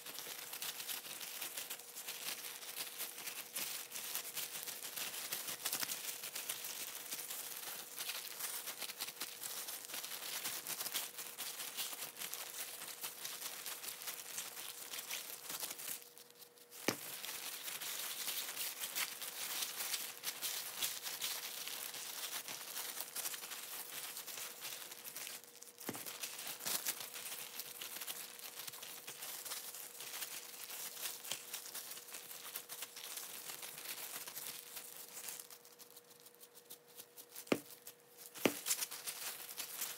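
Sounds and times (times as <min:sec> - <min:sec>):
faint steady hum: 0:00.0 - 0:39.9
plastic gloves crinkling: 0:00.0 - 0:39.9.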